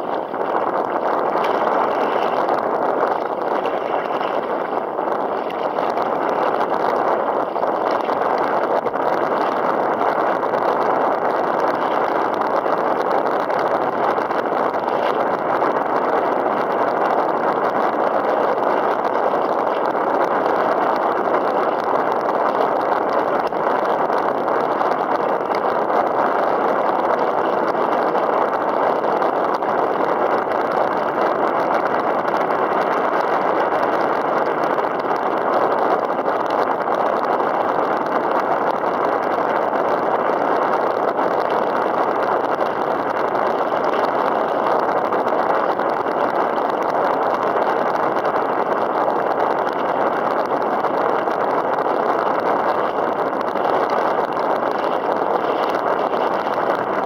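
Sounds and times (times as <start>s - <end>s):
water around a kayak: 0.0s - 57.0s.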